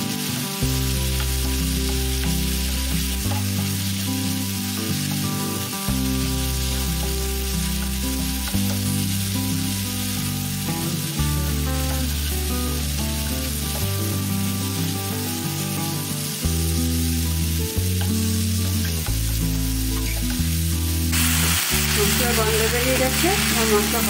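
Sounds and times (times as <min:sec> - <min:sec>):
low background music: 0:00.0 - 0:24.0
paste sizzling in oil: 0:00.0 - 0:24.0.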